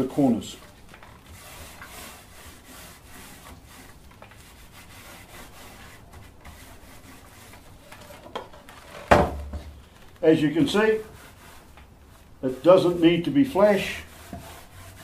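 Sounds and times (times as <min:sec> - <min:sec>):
paint roller rubbing: 0:00.6 - 0:08.0, 0:10.2 - 0:15.0.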